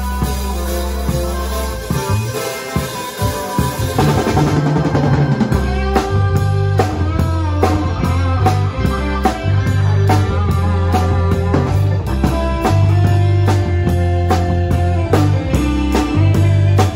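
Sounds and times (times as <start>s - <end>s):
drum strokes: 0.0s - 16.9s
live rock band playing: 0.0s - 16.9s.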